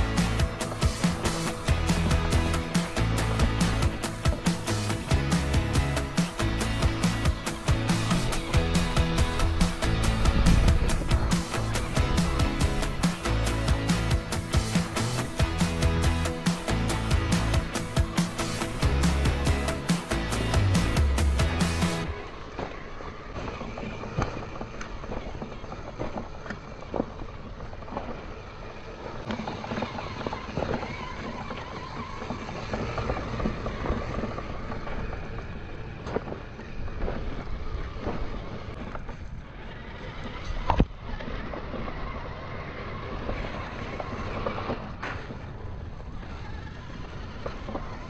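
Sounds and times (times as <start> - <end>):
electric motor and gear whine: 0.0 - 48.0
stones crunching under tyres: 0.0 - 48.0.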